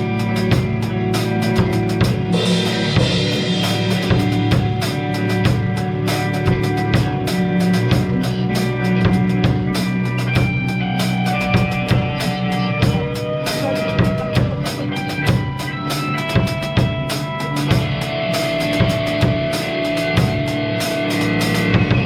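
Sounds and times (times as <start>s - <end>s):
bass and melodic notes: 0.0s - 22.0s
drum kit playing: 0.0s - 22.0s.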